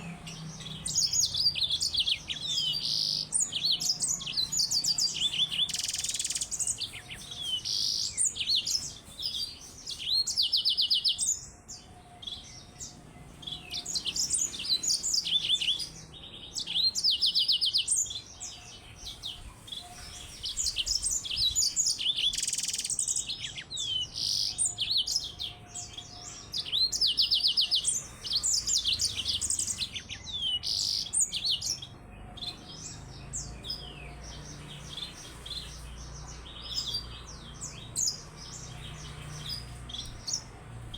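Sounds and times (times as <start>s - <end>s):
canary singing: 0.0s - 40.9s
soft bird chirping: 0.0s - 40.9s.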